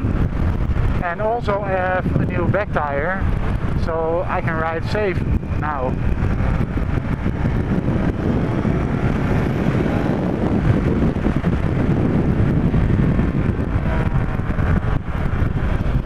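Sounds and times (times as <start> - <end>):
motorcycle engine running: 0.0 - 16.0
wind over microphone: 0.0 - 16.0.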